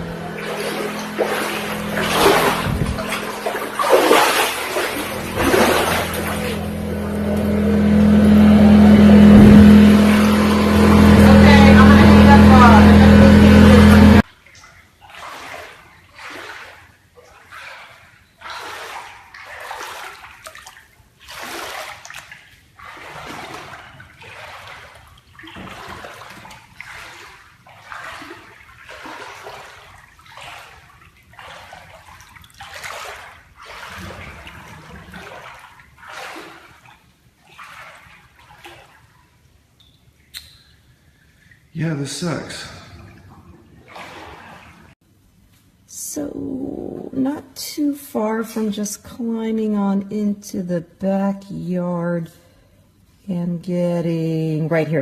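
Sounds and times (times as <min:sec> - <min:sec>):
floodwater splashing and sloshing: 0:00.0 - 0:51.1.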